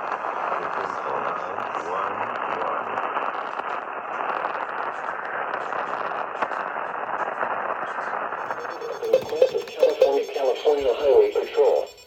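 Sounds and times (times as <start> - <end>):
faint crackles: 0.0 - 11.8
radio static hiss: 0.0 - 12.0.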